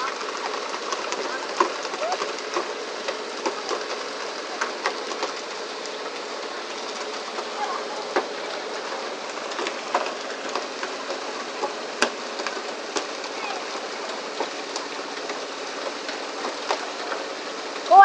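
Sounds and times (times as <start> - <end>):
water spray along hull: 0.0 - 18.0.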